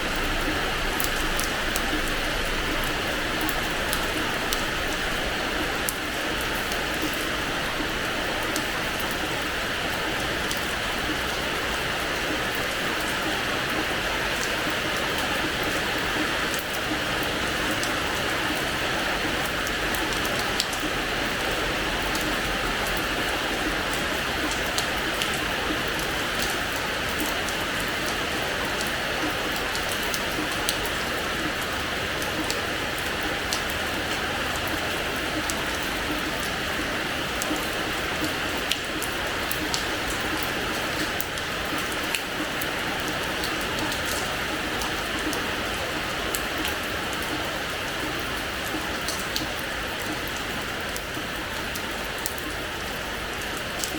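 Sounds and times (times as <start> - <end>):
rain on a hard floor: 0.0 - 53.9.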